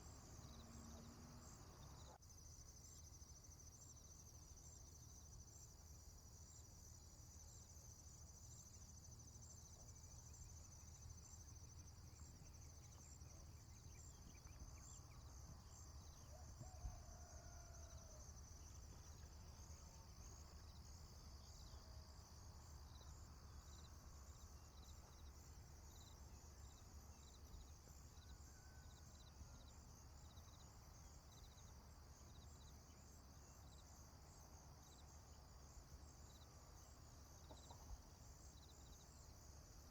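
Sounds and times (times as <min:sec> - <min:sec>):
insects chirping drone: 0:00.0 - 0:39.9.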